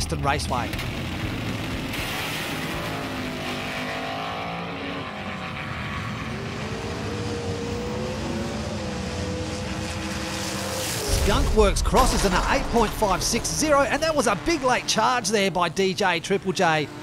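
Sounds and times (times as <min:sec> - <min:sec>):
race car engine revving: 0:00.7 - 0:17.0.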